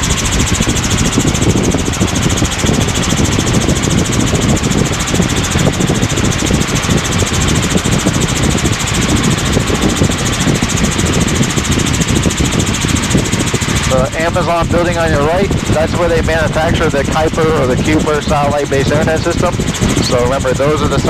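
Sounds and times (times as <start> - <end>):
helicopter rotor and engine drone: 0.0 - 21.0.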